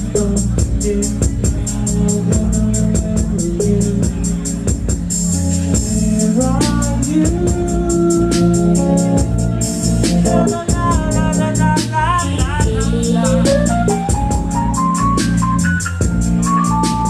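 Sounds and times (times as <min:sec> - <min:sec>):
bass: 0:00.0 - 0:17.0
drums with hi-hat ticks: 0:00.0 - 0:17.0
organ-toned keyboard: 0:00.0 - 0:17.0
sliding keyboard notes: 0:00.0 - 0:17.0.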